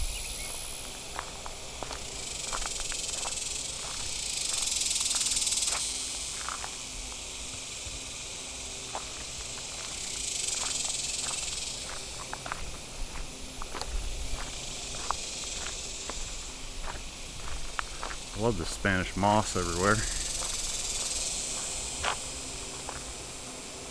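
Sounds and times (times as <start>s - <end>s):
footsteps crunching on trail: 0.0s - 23.8s
shrill insect buzzing: 0.0s - 23.9s.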